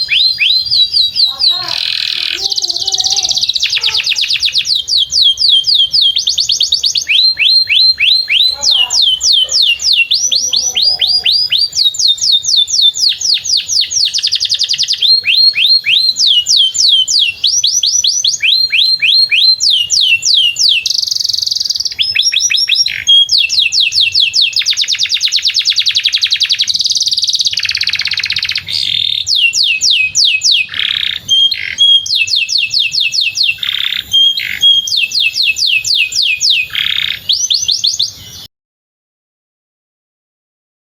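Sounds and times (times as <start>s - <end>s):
canary singing trills: 0.0s - 38.5s.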